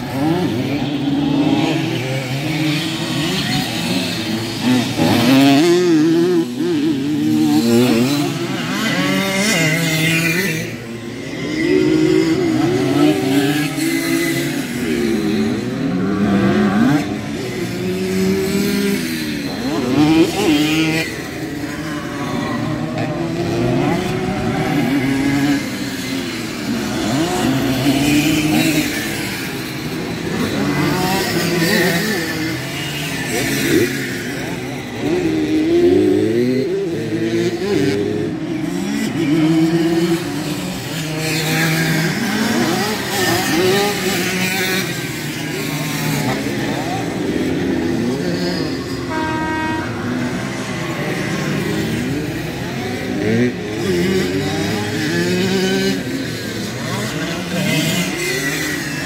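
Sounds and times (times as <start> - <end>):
two-stroke motorbike engines revving: 0.0 - 59.0.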